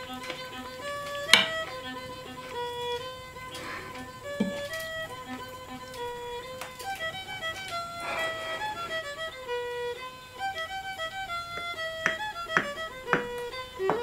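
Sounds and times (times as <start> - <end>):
solo fiddle melody: 0.0 - 14.0.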